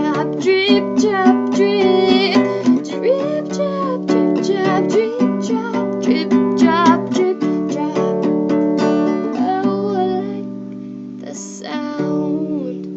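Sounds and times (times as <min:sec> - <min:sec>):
plucked small string instrument: 0:00.0 - 0:12.9.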